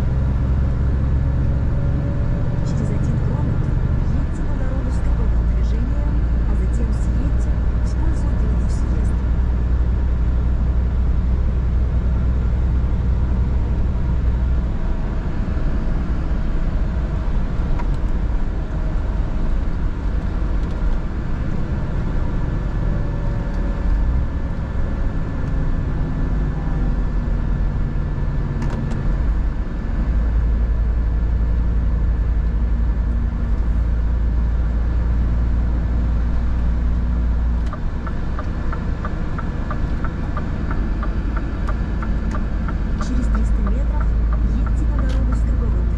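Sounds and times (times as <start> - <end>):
road noise: 0.0 - 45.9
truck diesel engine droning: 0.0 - 45.9.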